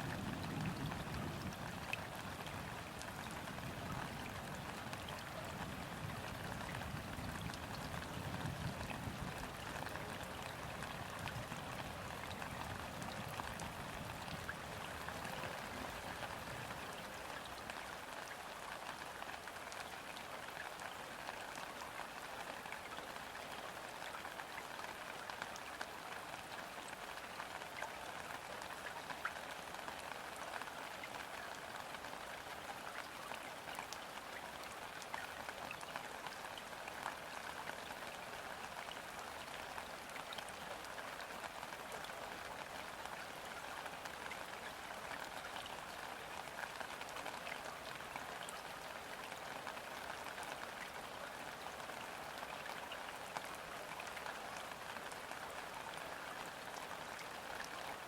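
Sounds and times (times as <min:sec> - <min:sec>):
rain falling on river: 0:00.0 - 0:58.0.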